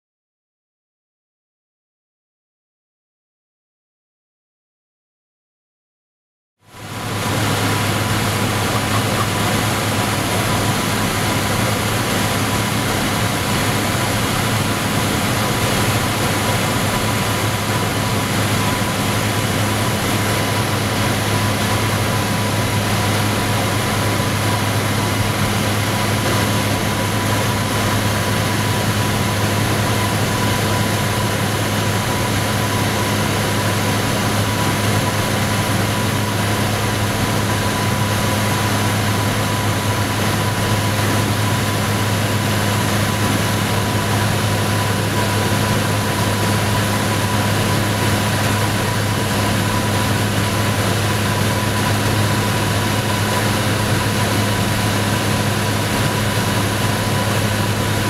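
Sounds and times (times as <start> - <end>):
airplane engine and propeller: 6.6 - 58.0.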